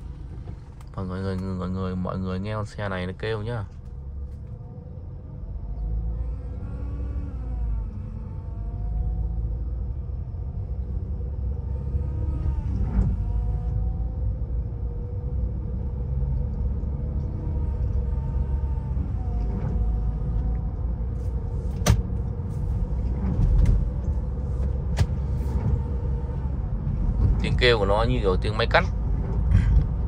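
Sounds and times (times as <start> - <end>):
car low rumble: 0.0 - 30.0
transmission whining: 0.0 - 30.0.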